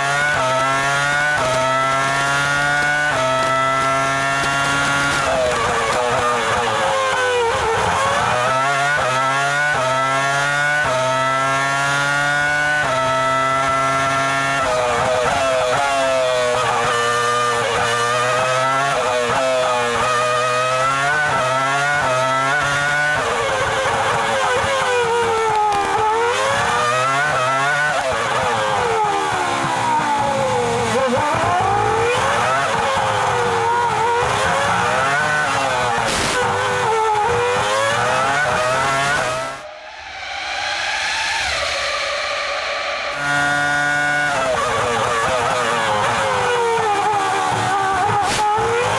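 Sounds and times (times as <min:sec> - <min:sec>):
racing car engine shifting gears: 0:00.0 - 0:39.7, 0:43.1 - 0:48.9.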